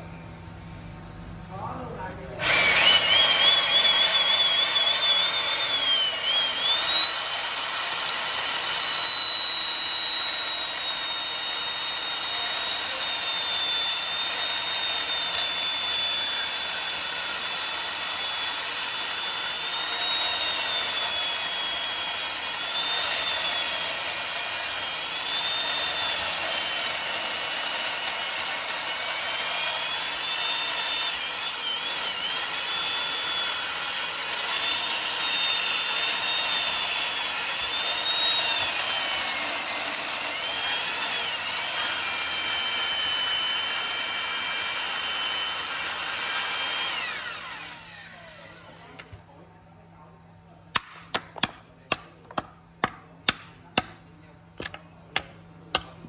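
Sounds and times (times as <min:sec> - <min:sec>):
electric chainsaw cutting wood: 0:02.1 - 0:49.2.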